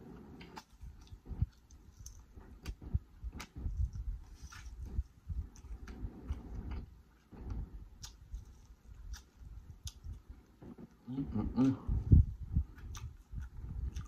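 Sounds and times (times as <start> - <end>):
chewing and biting corn: 0.0 - 11.0, 12.6 - 14.0.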